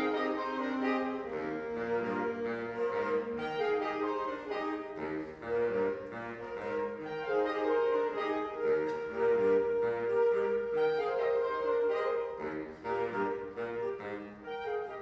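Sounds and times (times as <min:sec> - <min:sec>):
saxophone ensemble playing: 0:00.0 - 0:15.0.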